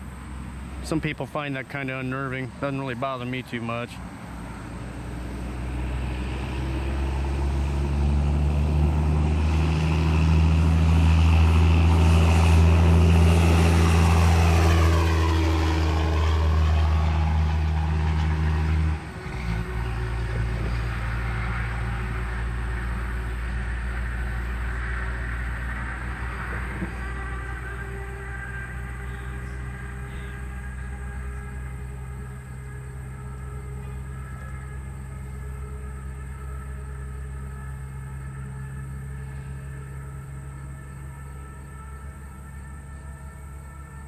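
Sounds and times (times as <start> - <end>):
quieter steady drone: 0.0 - 44.0
vehicle engine low drone: 0.0 - 44.0.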